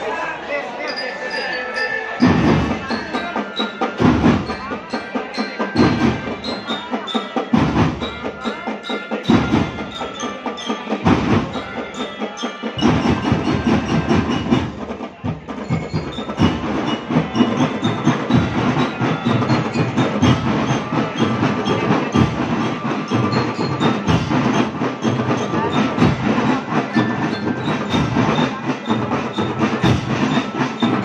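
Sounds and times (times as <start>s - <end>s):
bell-like mallet notes: 0.0s - 31.0s
marching drums: 2.2s - 31.0s.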